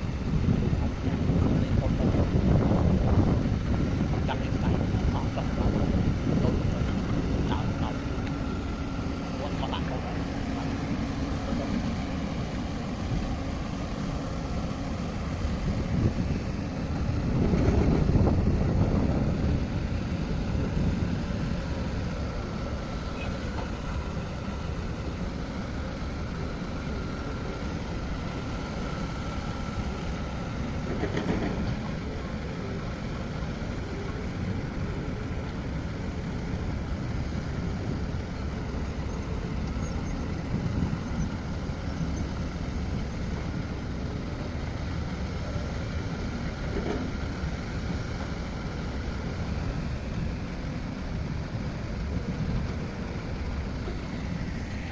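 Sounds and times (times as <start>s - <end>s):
diesel engine of heavy machinery: 0.0s - 54.9s
faint steady whine: 0.0s - 54.9s.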